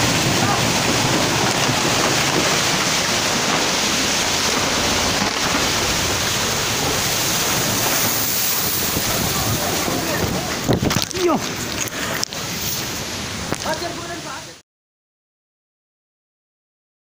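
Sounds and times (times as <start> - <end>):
floodwater rushing: 0.0 - 14.6
heavy rain: 0.0 - 14.6.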